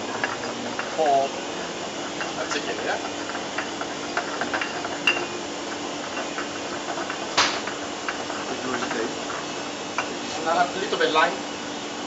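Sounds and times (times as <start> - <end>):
utensils clinking against dish: 0.0 - 1.4, 2.0 - 11.0
steady low hum: 0.0 - 12.0.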